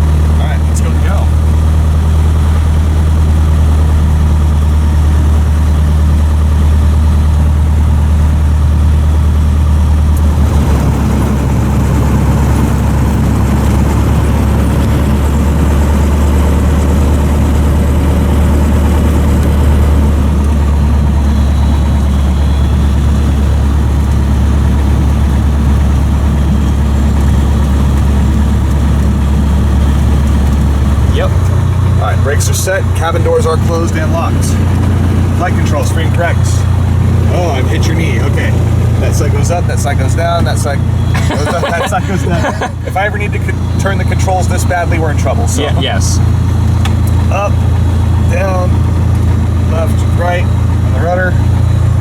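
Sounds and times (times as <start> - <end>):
small plane engine droning: 0.0 - 52.0.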